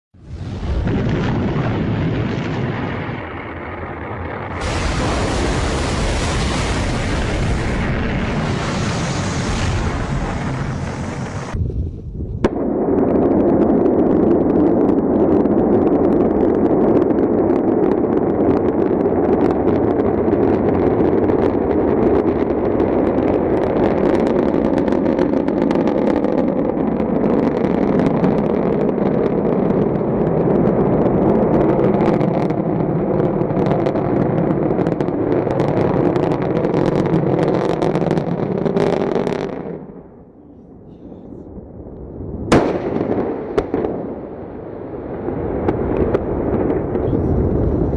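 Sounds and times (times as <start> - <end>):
rocket engine roar: 0.2 - 47.9.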